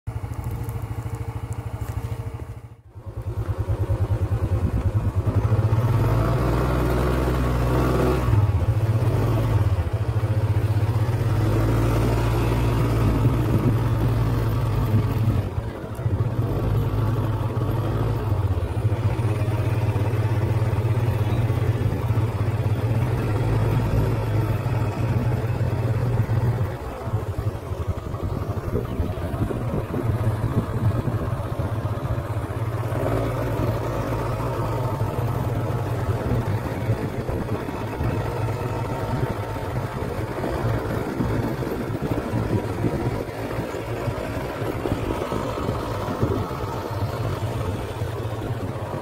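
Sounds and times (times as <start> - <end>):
motor scooter engine: 0.1 - 49.0.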